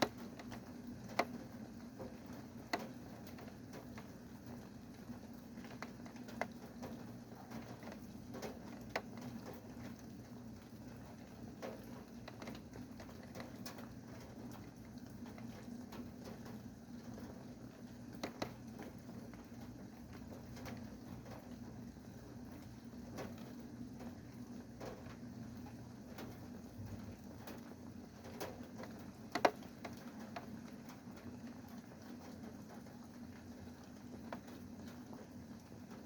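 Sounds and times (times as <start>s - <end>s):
light rain falling: 0.0s - 36.0s.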